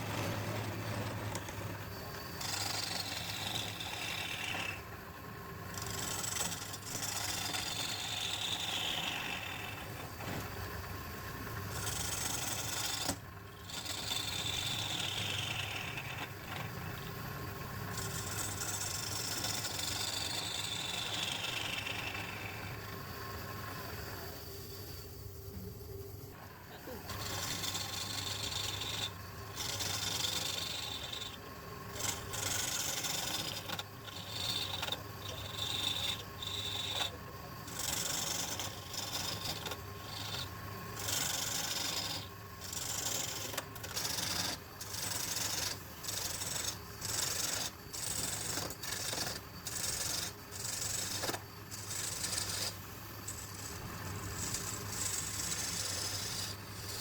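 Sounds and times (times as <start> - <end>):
wood rasping against tool: 0.0 - 4.9, 5.7 - 10.0, 11.7 - 17.1, 17.9 - 22.8, 26.9 - 57.0
lathe humming: 0.0 - 24.4, 25.0 - 57.0.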